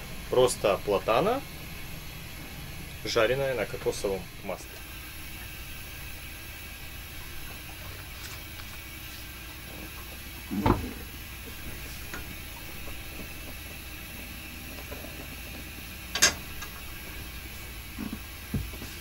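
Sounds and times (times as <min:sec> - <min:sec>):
gas stove hiss: 0:00.0 - 0:19.0.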